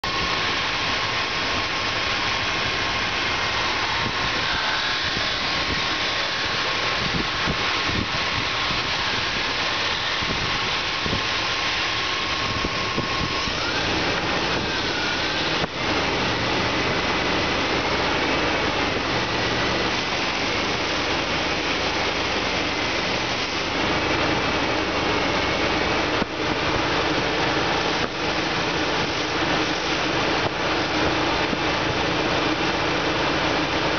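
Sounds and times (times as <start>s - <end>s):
car engine running: 0.0s - 33.9s
thin whine rising in pitch: 0.0s - 33.9s.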